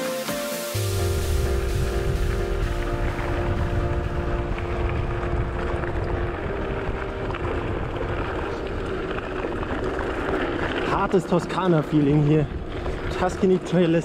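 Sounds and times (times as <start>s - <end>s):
wind buffeting microphone: 1.0s - 14.0s
tyres crunching over gravel: 2.0s - 14.0s.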